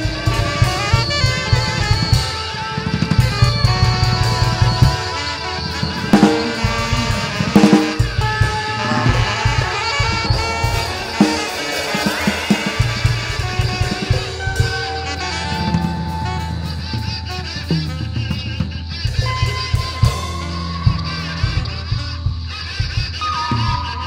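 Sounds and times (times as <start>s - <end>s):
drum kit hits: 0.0s - 23.2s
lap steel guitar tones: 0.0s - 24.0s.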